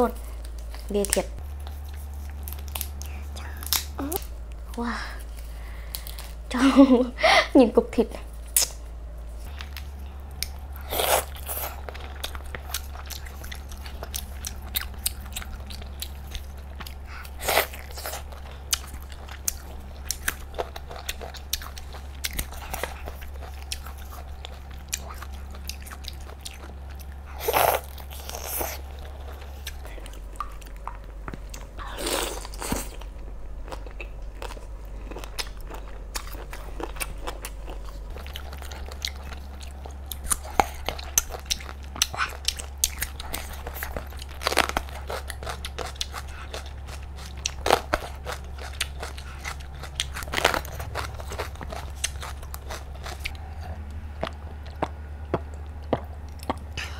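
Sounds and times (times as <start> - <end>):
person chewing: 0.0 - 6.4, 8.4 - 8.8, 9.4 - 56.9
low hum: 0.0 - 56.9.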